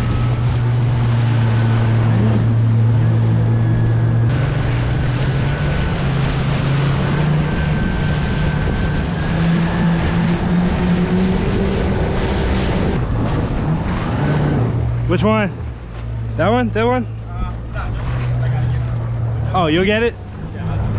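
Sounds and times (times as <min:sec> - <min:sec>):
jet ski engine running: 0:00.0 - 0:20.9
water rushing: 0:00.0 - 0:20.9.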